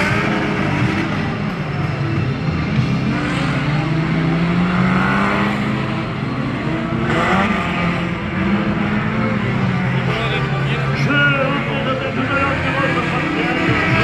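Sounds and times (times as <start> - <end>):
race car engines revving: 0.0 - 14.0.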